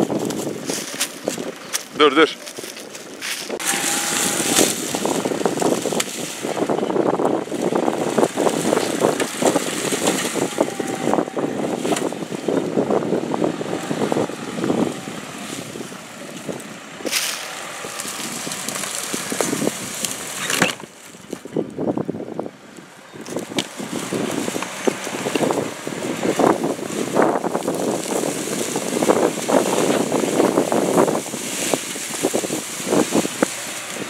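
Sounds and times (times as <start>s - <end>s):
dry leaves and twigs crunching: 0.0s - 13.0s, 13.6s - 21.9s, 22.7s - 34.0s
car engine running low: 0.0s - 34.0s.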